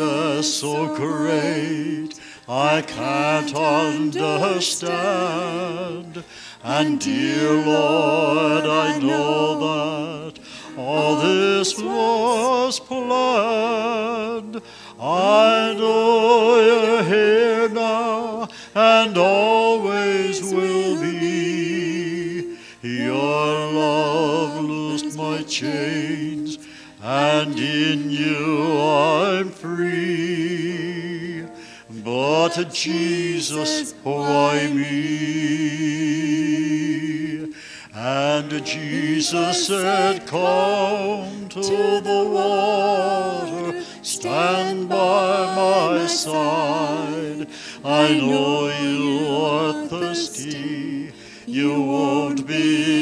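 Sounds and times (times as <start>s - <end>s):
vocal quartet singing gospel: 0.0s - 53.0s.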